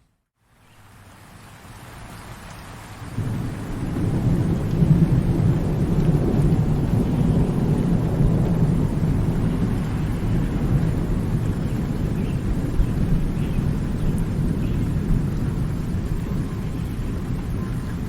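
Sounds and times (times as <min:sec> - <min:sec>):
rain hiss: 0:00.4 - 0:18.0
rolling thunder rumble: 0:03.1 - 0:18.0.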